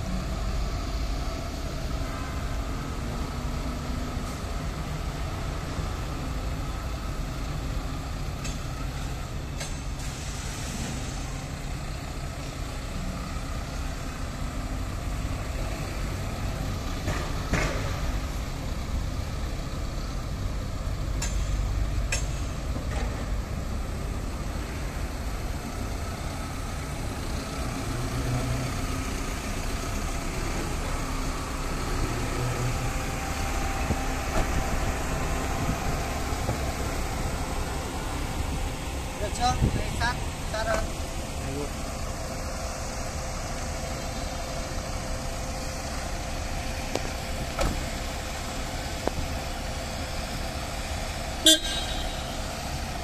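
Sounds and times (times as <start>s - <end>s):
diesel truck engine running: 0.0s - 53.0s.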